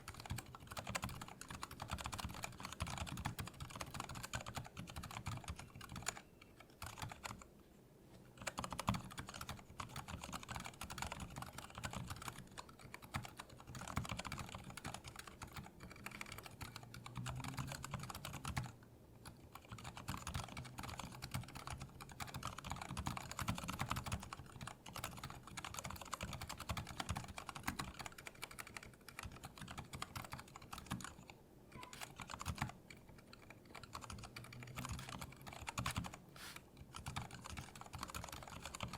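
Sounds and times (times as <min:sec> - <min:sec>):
soft keyboard typing: 0:00.0 - 0:38.9.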